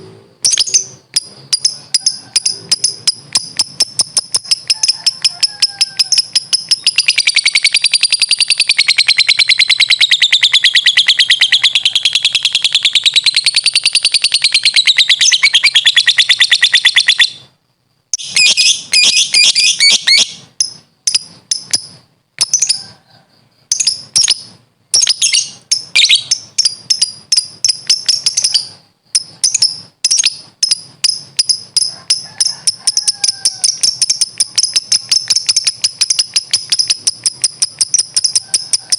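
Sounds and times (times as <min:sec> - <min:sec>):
lovebird chattering trill: 0:00.4 - 0:17.5, 0:18.2 - 0:23.0, 0:23.6 - 0:38.9.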